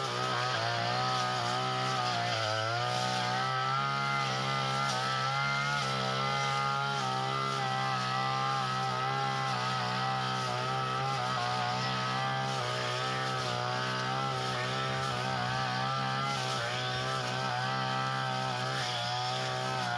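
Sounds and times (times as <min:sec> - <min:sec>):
brush cutter engine running: 0:00.0 - 0:19.9.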